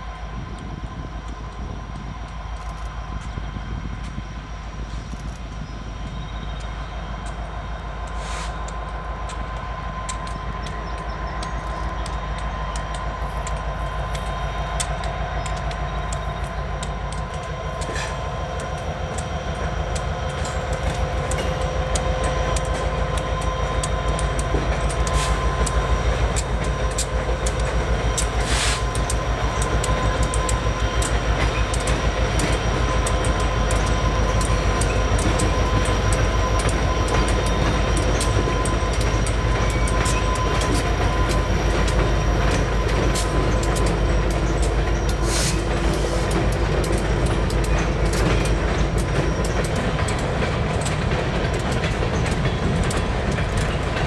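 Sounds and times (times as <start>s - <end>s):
diesel locomotive engine drone: 0.0s - 54.0s
train wheels clicking over rail joints: 0.0s - 54.0s.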